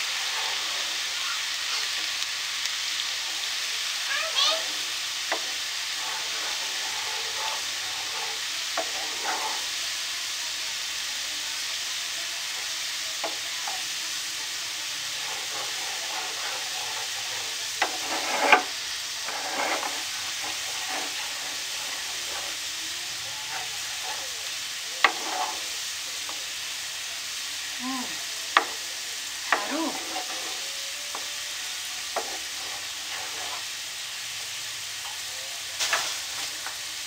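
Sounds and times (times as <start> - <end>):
garlic sizzling in oil: 0.0 - 37.0
spatula scraping a pan: 0.0 - 37.0.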